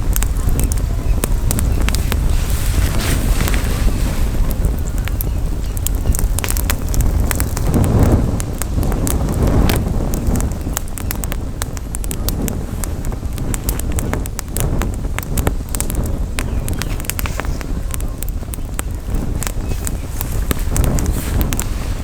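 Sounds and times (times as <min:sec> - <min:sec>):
campfire crackling and popping: 0:00.0 - 0:22.0
wind buffeting microphone: 0:00.0 - 0:22.0.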